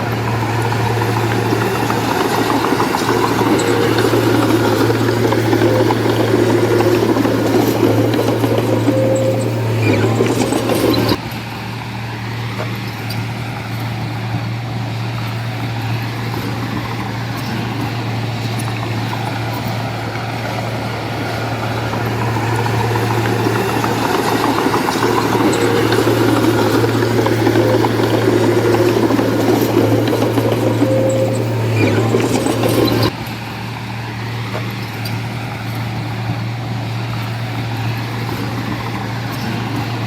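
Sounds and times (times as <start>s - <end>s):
heavy machinery diesel engine humming: 0.0s - 40.0s.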